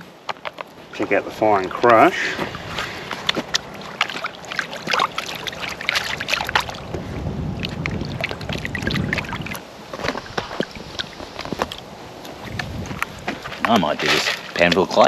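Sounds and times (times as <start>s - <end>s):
water sloshing and splashing: 0.4s - 15.0s.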